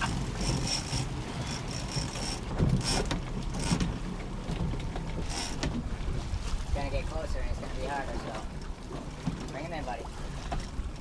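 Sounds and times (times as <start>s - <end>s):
wind on microphone: 0.0s - 8.8s
boat engine rumbling: 0.0s - 11.0s
water sloshing: 0.0s - 11.0s.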